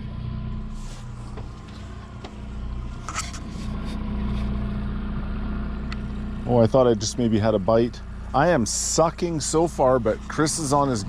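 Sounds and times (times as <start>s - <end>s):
outboard motor humming: 0.0s - 11.0s.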